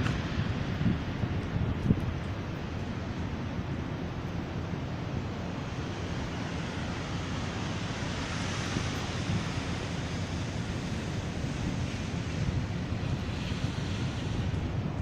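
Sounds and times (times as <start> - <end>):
rushing wind: 0.0 - 15.0
vehicle road noise: 0.0 - 15.0.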